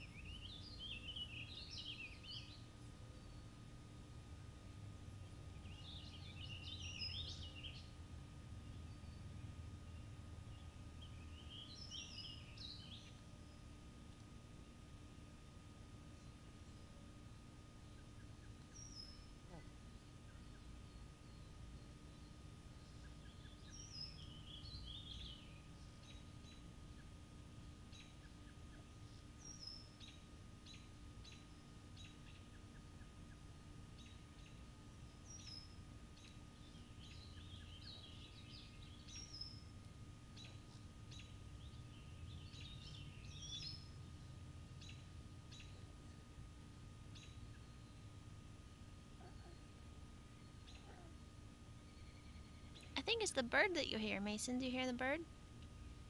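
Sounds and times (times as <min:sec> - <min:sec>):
faint birds chirping: 0:00.0 - 0:56.0
low steady rumble: 0:00.0 - 0:56.0.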